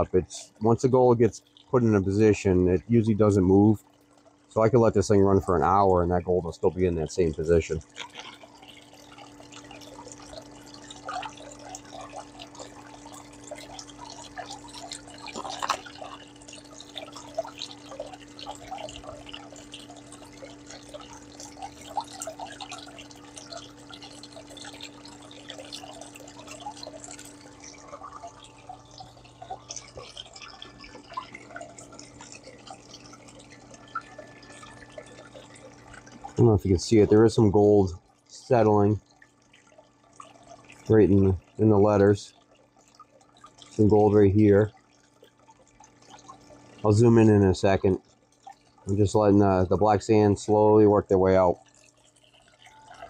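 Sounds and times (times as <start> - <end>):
water pump humming: 0.0 - 53.0
water trickling and dripping: 0.0 - 53.0.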